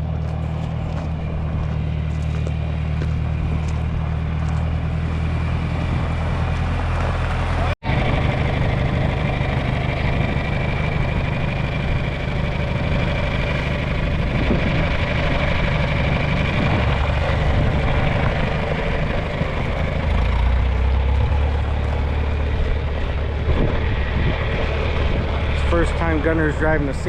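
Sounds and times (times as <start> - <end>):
tractor engine rumbling: 0.0 - 27.0.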